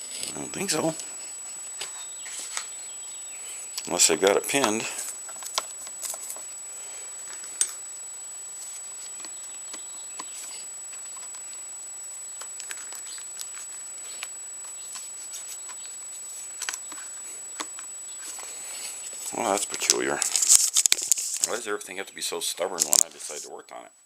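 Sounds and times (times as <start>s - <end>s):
steady faint hiss: 0.0s - 24.0s
thin high whine: 0.0s - 24.0s.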